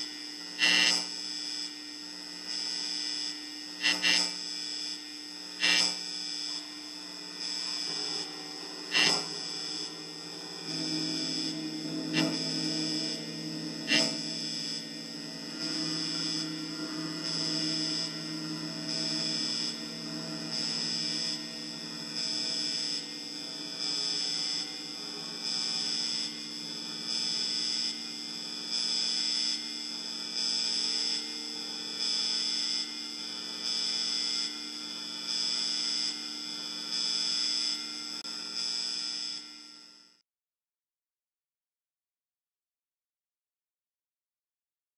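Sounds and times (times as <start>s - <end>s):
pulsing electronic drone: 0.0s - 39.5s.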